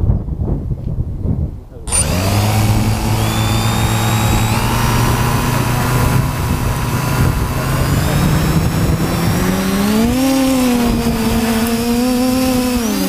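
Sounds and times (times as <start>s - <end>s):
wind buffeting microphone: 0.0s - 13.0s
drone motors whining: 1.9s - 13.0s.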